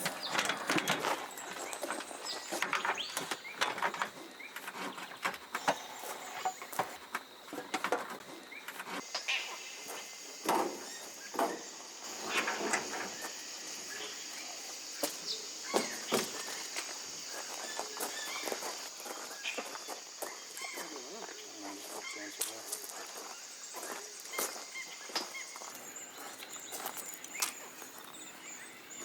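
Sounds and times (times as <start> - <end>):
high-pitched hiss: 1.2 - 29.0.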